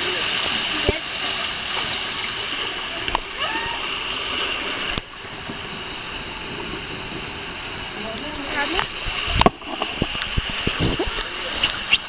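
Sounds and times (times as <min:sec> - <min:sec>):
water rushing down slide tube: 0:00.0 - 0:12.0.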